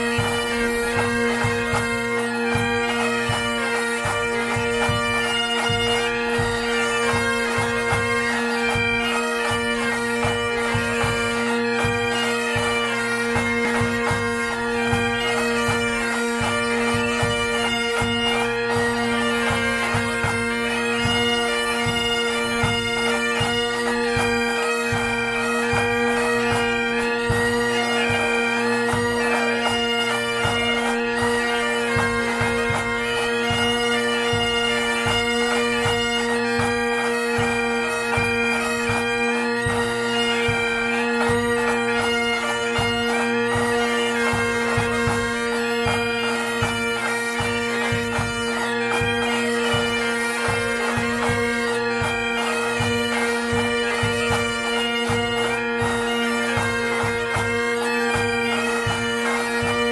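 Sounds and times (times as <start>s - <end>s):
bagpipes with drone: 0.0s - 59.9s
drum beating time: 0.0s - 59.9s.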